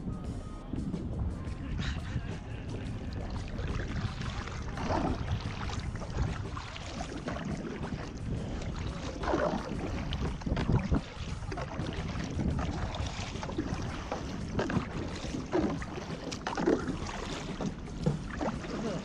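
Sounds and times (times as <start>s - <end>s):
paddle splashing in water: 1.6s - 19.0s
water wash: 1.9s - 19.0s.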